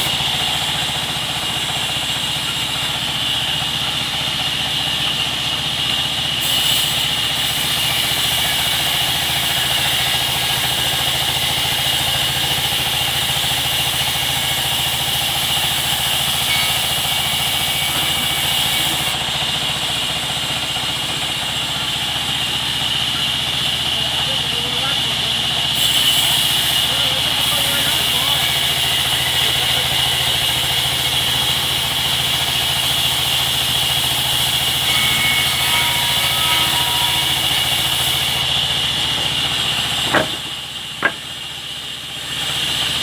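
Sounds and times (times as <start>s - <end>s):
sawmill machinery whine and hum: 0.0s - 43.0s.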